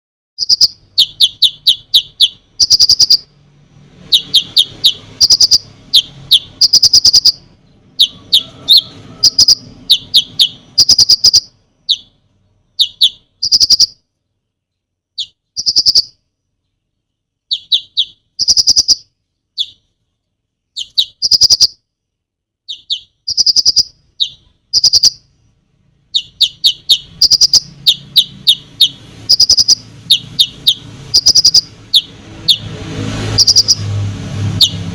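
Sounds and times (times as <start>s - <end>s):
songbird singing: 0.4s - 3.4s, 4.0s - 21.9s, 22.6s - 34.9s.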